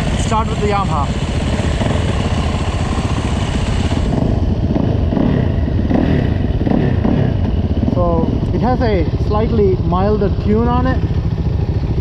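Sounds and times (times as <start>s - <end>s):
dirt bike engines idling: 0.0s - 12.0s.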